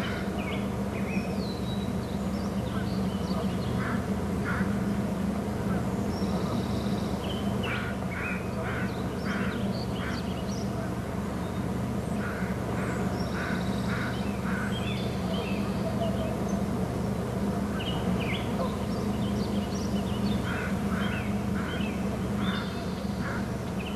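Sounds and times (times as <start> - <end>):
birds harsh calls: 0.0 - 23.9
steady low hum: 0.0 - 23.9.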